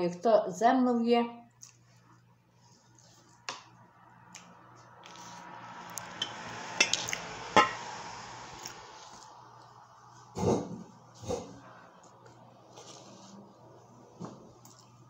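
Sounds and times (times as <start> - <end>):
low steady hum: 0.0 - 15.0
soft background noise: 0.0 - 15.0.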